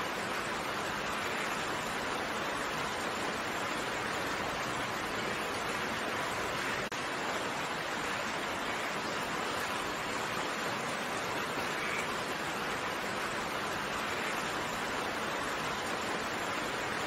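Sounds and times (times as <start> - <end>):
steady rain hissing: 0.0 - 17.0.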